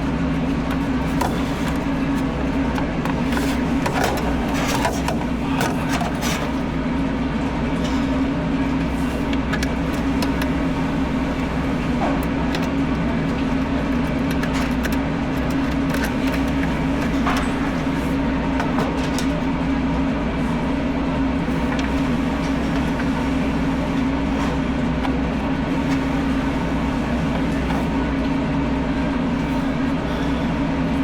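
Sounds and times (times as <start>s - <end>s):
machine humming with low drone: 0.0s - 31.0s.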